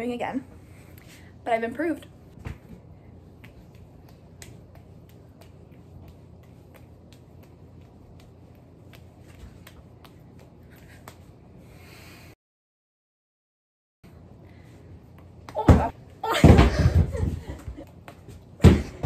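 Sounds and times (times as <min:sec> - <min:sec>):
low room hum: 0:00.0 - 0:12.4, 0:14.0 - 0:19.0.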